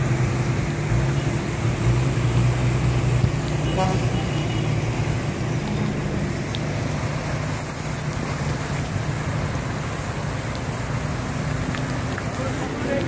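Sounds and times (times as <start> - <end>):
idling traffic rumble: 0.0 - 13.0.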